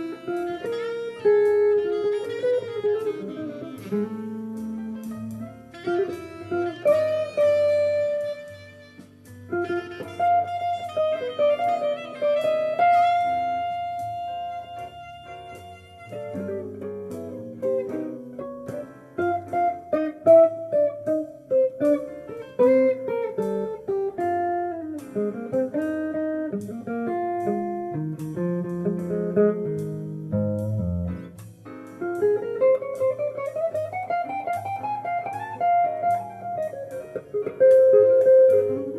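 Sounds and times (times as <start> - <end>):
jazz guitar playing: 0.0 - 38.9.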